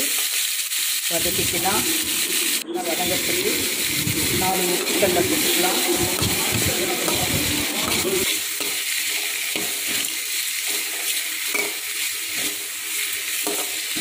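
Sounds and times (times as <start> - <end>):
vegetables sizzling in hot oil: 0.0 - 14.0
metal spoon scraping a pan: 0.2 - 14.0.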